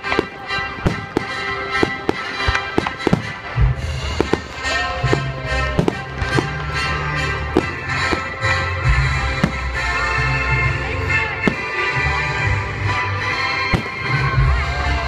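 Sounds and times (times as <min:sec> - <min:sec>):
fireworks popping and crackling: 0:00.0 - 0:12.7, 0:13.6 - 0:15.0
background music with bass notes: 0:00.2 - 0:15.0.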